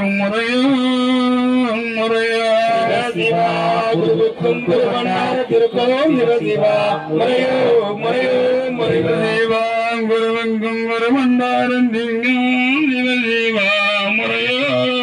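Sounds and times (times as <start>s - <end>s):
men singing a devotional chant: 0.0s - 15.0s.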